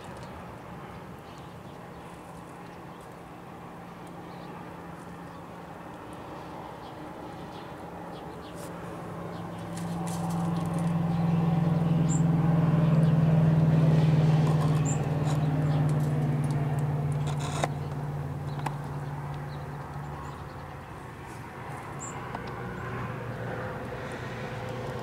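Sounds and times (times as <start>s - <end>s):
motor vehicle engine hum: 0.0s - 25.0s
small birds chirping: 3.9s - 13.3s, 14.4s - 25.0s.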